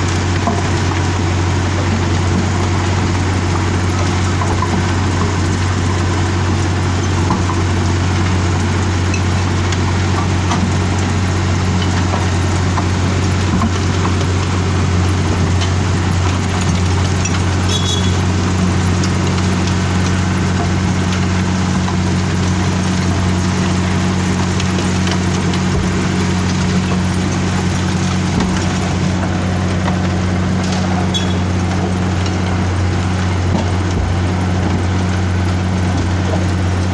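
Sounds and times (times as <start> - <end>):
diesel engine drone: 0.0 - 36.9
rough milling noise: 0.0 - 36.9.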